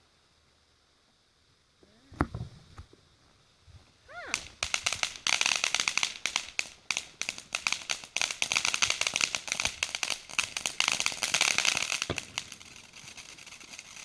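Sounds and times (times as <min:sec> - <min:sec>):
firework crackling: 0:02.1 - 0:14.0.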